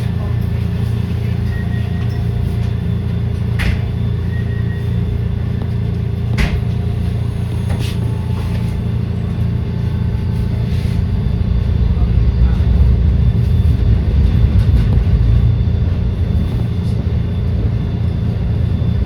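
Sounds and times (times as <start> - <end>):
trolley car rumbling: 0.0 - 19.0.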